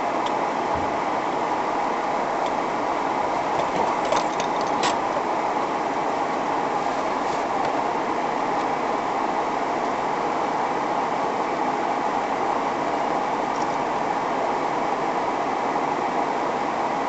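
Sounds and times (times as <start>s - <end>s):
car wash machine running: 0.0s - 17.0s.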